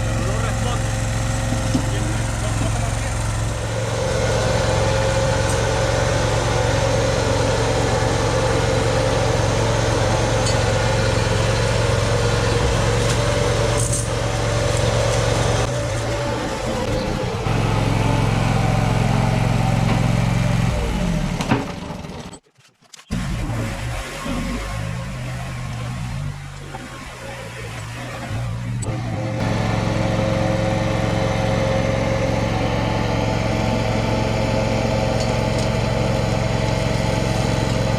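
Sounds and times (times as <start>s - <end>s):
tractor engine running: 0.0s - 22.4s, 23.1s - 37.9s.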